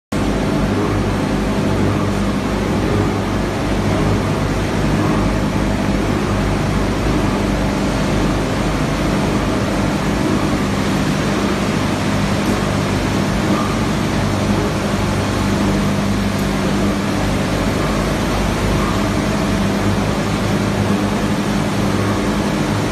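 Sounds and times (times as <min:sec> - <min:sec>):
industrial machinery din: 0:00.1 - 0:22.9.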